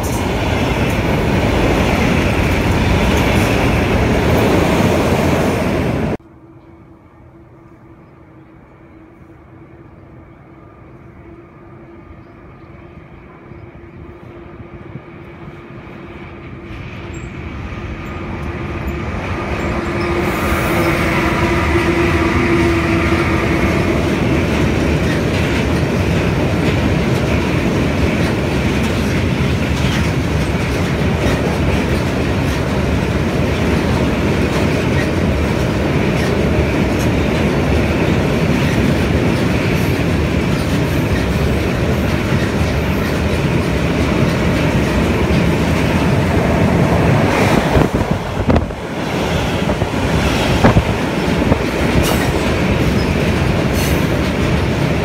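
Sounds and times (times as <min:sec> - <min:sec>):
wheels clickety-clack over rail joints: 0:00.0 - 0:05.9, 0:16.3 - 0:55.0
freight train rumbling over bridge: 0:00.0 - 0:55.0.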